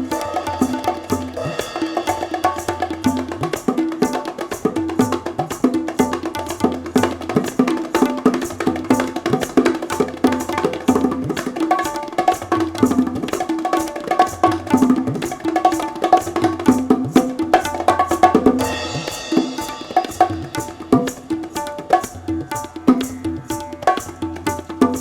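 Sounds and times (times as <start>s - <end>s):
hand drums playing fast rhythm: 0.0s - 25.0s.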